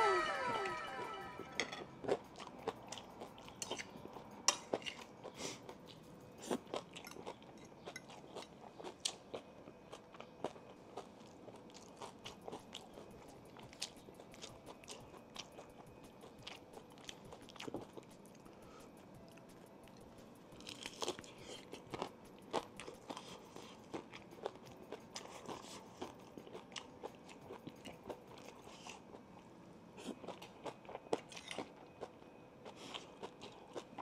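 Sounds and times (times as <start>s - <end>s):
crunching and chewing fried chicken: 1.8s - 34.0s.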